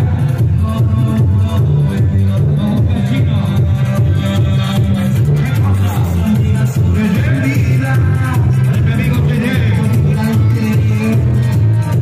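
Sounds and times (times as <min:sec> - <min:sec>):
loud bass-heavy music from car speakers: 0:00.0 - 0:12.0.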